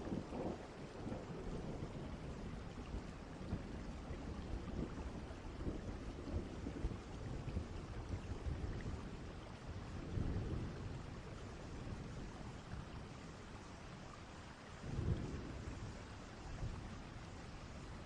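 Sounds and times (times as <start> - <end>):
distant rumbling thunder: 0.0 - 13.1, 14.9 - 17.9
steady rain: 0.0 - 18.0.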